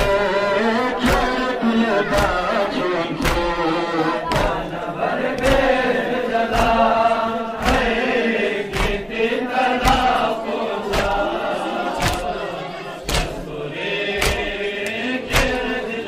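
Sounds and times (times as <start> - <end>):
men chanting in unison: 0.0 - 16.0
rhythmic chest-beating slaps: 0.0 - 16.0.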